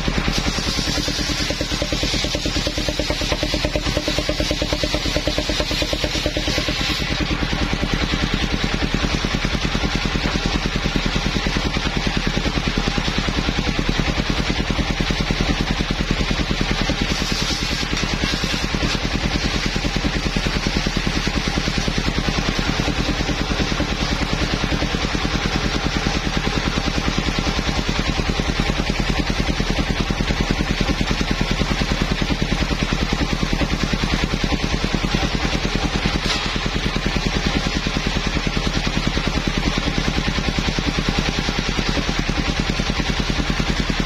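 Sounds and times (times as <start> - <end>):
sawmill engine running: 0.0 - 44.0.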